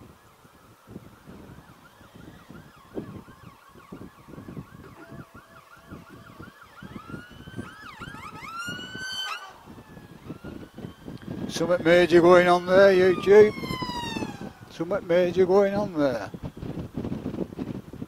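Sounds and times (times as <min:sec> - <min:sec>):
ambulance siren: 0:00.0 - 0:17.8.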